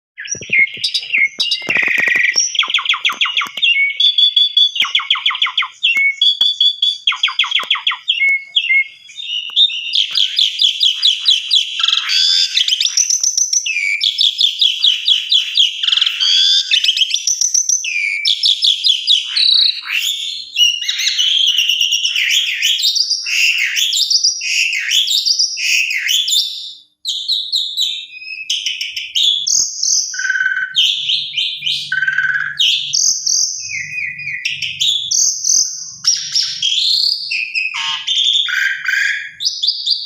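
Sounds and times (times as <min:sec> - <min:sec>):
starling singing trills and whistles: 0:00.2 - 0:40.0.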